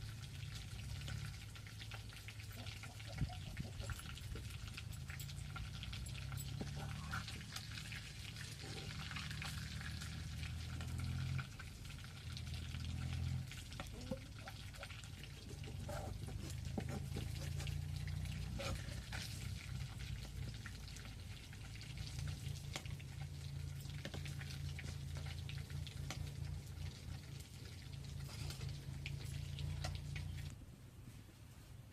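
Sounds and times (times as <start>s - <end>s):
food frying in hot oil: 0.0s - 30.5s.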